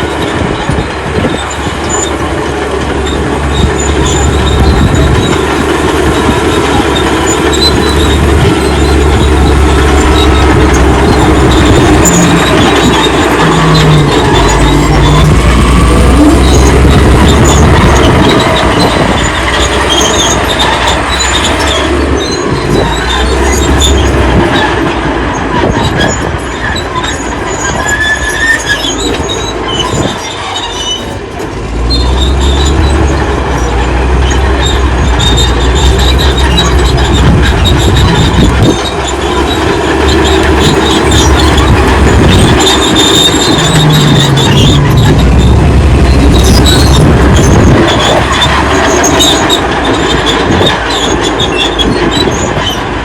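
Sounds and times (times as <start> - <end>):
bulldozer engine under load: 0.0 - 53.0
steel tracks squealing and clanking: 0.0 - 53.0.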